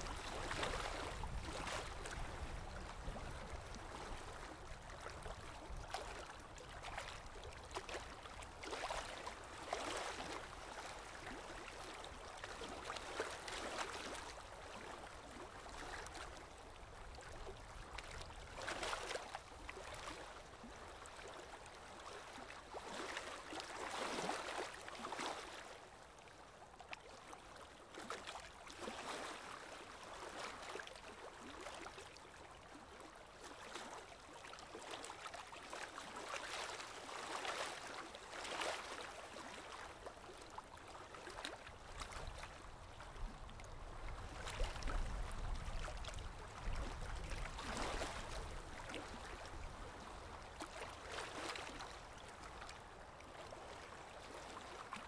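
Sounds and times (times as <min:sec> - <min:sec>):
lake water lapping: 0:00.0 - 0:55.0.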